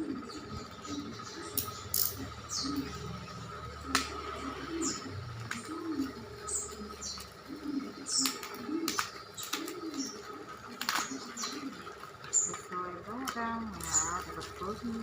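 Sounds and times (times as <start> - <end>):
low cooing bird calls: 0.0 - 15.0.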